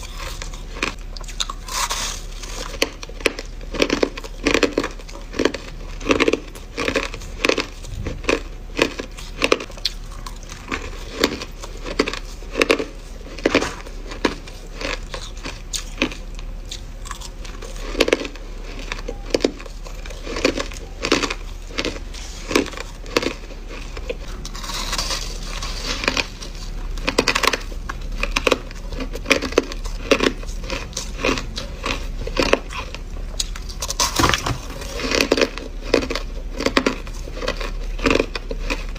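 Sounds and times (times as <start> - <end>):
crushed ice crunching: 0.0 - 38.9.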